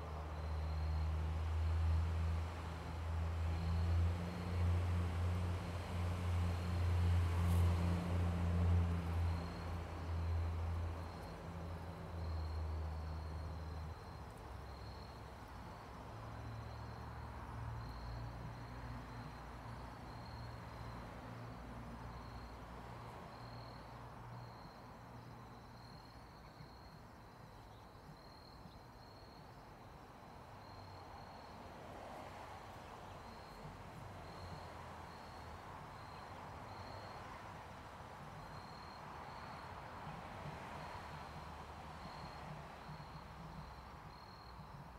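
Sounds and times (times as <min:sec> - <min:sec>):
insects chirping: 0:00.0 - 0:44.9.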